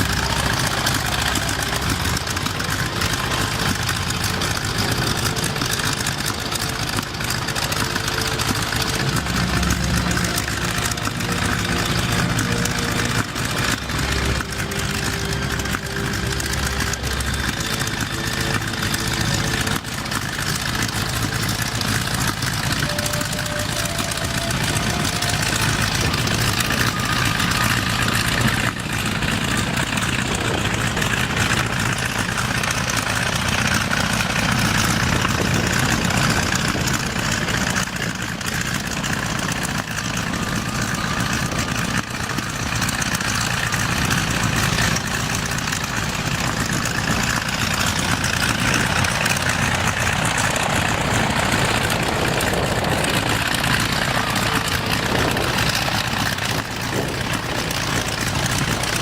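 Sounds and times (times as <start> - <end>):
propeller aircraft engine droning: 0.0 - 59.0.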